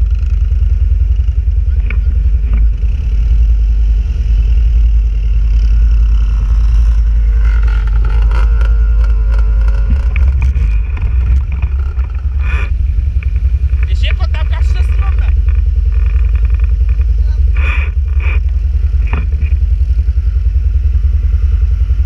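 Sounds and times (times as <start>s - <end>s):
clatter: 0.0s - 22.0s
off-road engines revving: 0.0s - 22.0s
quad bike engine idling: 0.0s - 22.0s.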